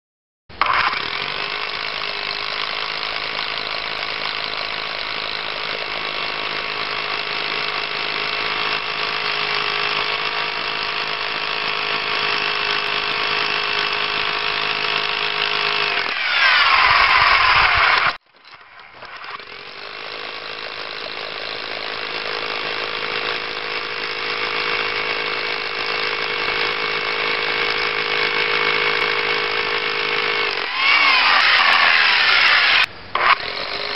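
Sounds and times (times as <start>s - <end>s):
electric rotary hammer running: 0.6s - 18.2s, 19.0s - 33.9s.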